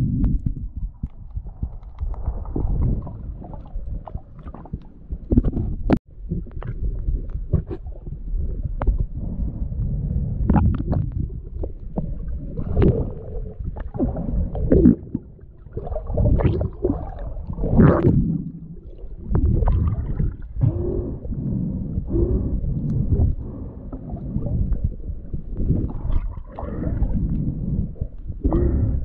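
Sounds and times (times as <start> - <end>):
water gurgling underwater: 0.0 - 29.0.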